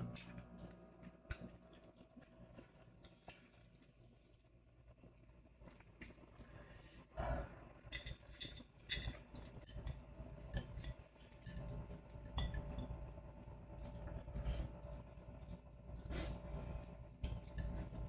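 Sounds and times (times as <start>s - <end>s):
chewing noodles: 0.0s - 6.8s, 8.1s - 18.0s.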